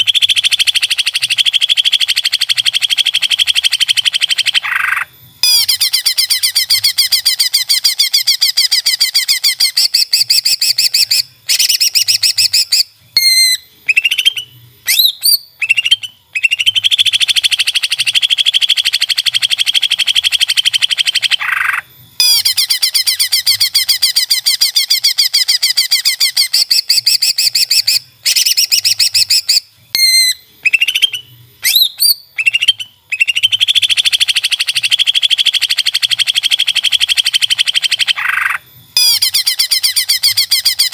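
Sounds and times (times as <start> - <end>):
bird sweeping whistled notes: 0.0 - 40.9.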